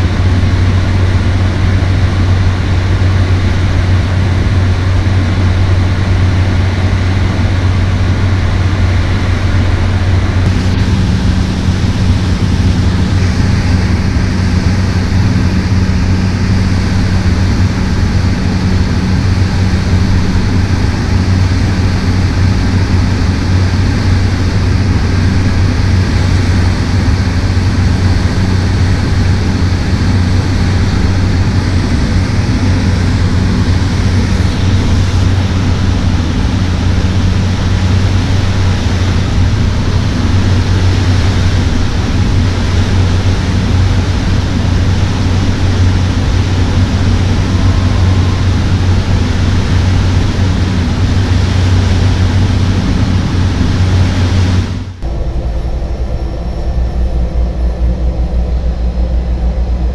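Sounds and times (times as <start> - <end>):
engine and air rush: 0.0 - 59.9
propeller hum: 0.0 - 59.9.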